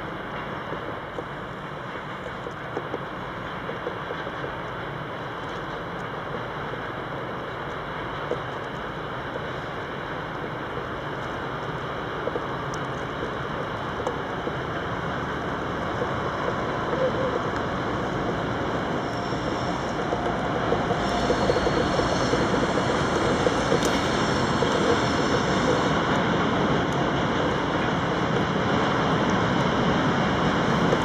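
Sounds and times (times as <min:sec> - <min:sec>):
train wheels rumbling on rails: 0:00.0 - 0:31.0
faint whine: 0:05.3 - 0:31.0.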